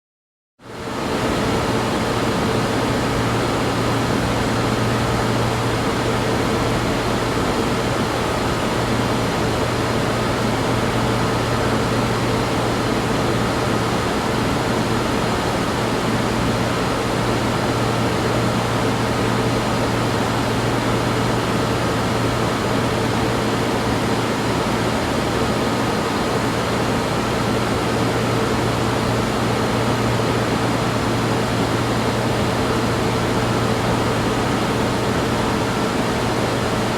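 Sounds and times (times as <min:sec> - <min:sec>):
machine hum with low drone: 0:00.7 - 0:36.9.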